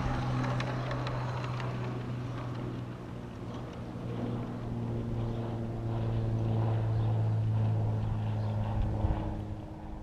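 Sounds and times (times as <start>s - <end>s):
low motor drone: 0.0s - 10.0s.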